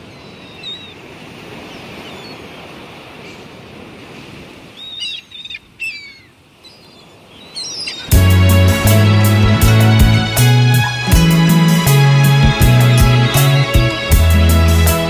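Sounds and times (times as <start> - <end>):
birds chirping: 0.0 - 1.0, 1.6 - 3.5, 4.8 - 15.0
rushing surf-like wash: 0.0 - 5.1, 7.1 - 15.0.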